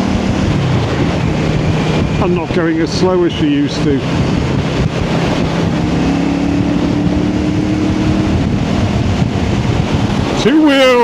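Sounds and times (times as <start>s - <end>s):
motorcycle engine running: 0.0s - 11.0s
wind noise on microphone: 0.0s - 11.0s.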